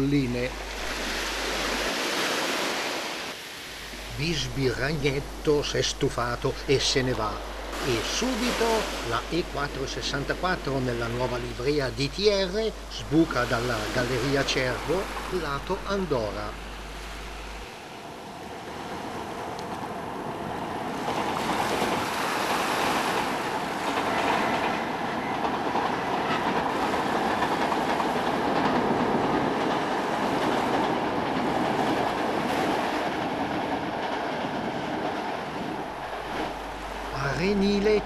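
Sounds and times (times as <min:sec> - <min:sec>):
train running past: 0:00.0 - 0:38.0.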